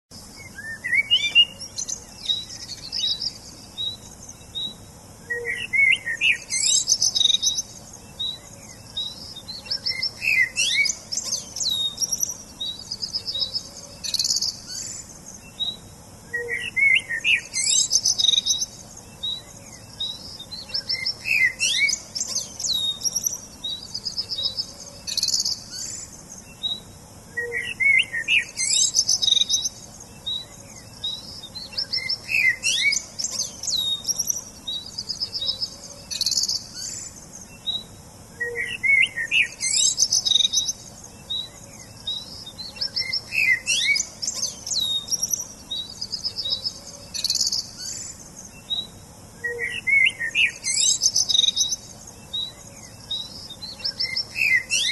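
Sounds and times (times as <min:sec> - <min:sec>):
songbirds chirping and singing: 0:00.1 - 0:54.9.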